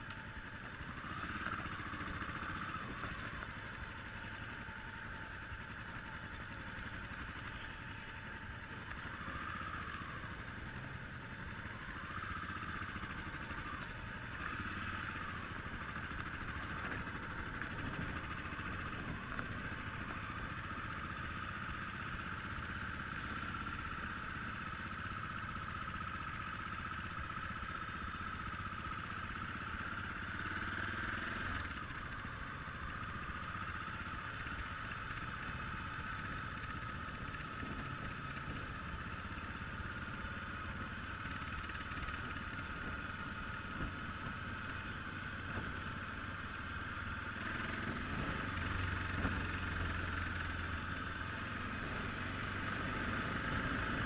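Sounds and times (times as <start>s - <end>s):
motorcycle engine running: 0.0s - 54.0s
road and air noise: 0.0s - 54.0s.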